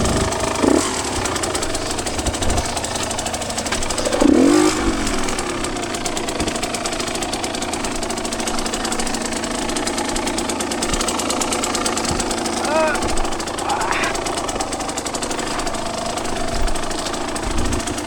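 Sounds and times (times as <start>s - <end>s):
two-stroke dirt bike engine revving: 0.0s - 18.0s.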